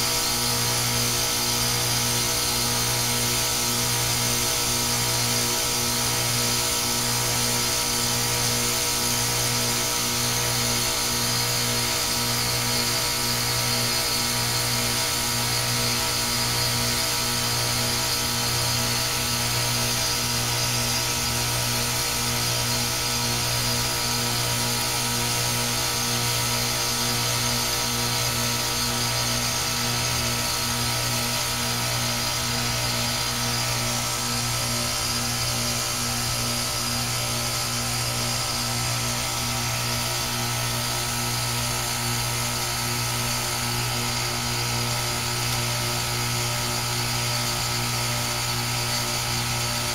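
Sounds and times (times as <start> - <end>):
heat pump machine hum: 0.0 - 49.9.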